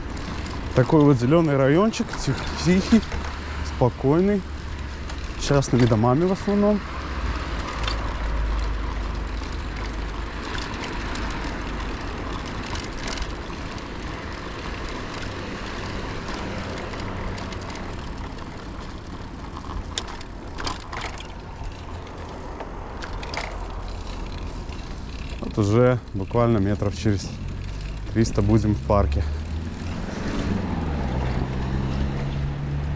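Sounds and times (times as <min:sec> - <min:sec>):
tyres rolling on road: 0:00.0 - 0:32.9.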